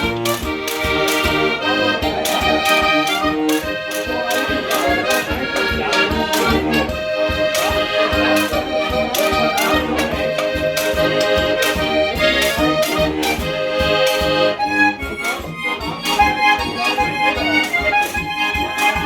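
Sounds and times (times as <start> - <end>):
accordion playing folk music: 0.0 - 19.0.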